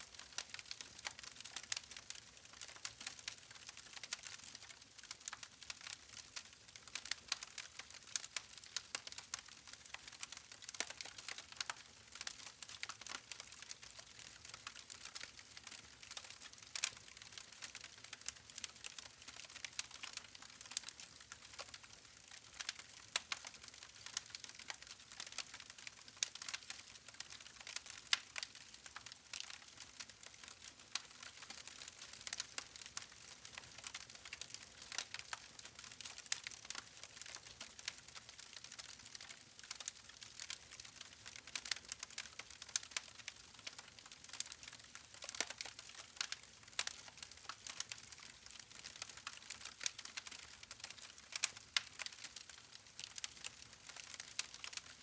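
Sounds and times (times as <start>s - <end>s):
wood fire crackling: 0.1s - 55.0s.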